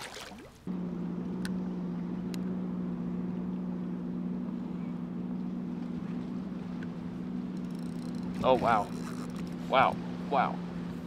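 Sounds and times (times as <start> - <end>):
low motor hum: 0.6 - 11.0.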